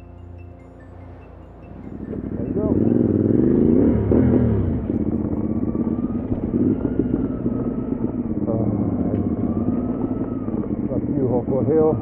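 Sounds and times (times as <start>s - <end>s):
motorcycle engine rumbling: 0.0s - 12.0s
road and wind noise: 0.0s - 12.0s.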